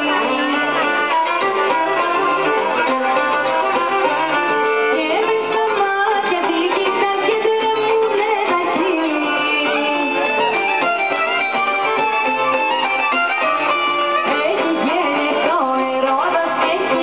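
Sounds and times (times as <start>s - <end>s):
guitar accompaniment: 0.0s - 17.0s
violin melody with sliding notes: 0.0s - 17.0s.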